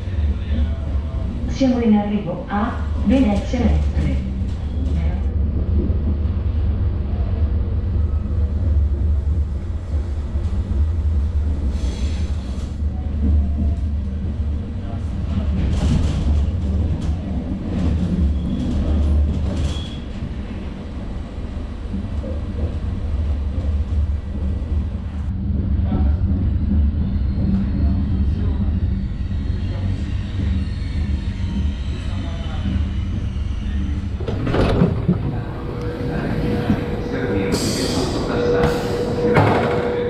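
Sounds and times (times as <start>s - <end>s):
train coach rumbling on rails: 0.0s - 40.0s.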